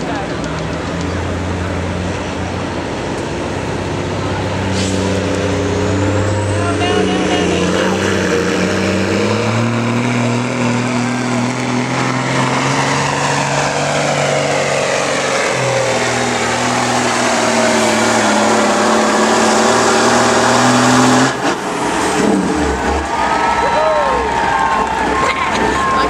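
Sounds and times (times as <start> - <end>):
truck engine droning: 0.0 - 26.0.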